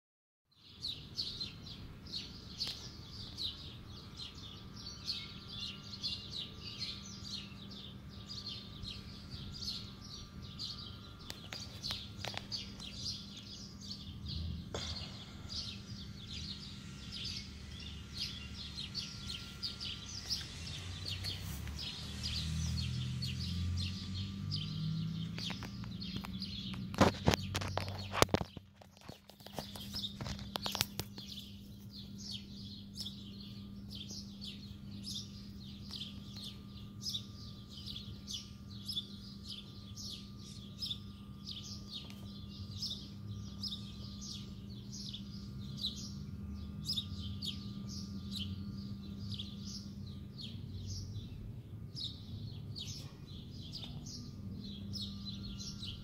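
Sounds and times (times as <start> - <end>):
small birds chirping: 0.5 - 56.0
steady low hum: 0.6 - 56.0.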